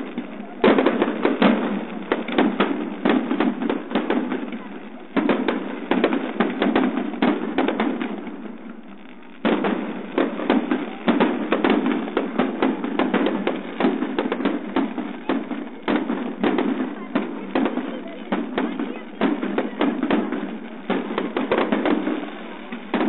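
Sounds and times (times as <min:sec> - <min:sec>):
firework shells bursting: 0:00.0 - 0:23.0.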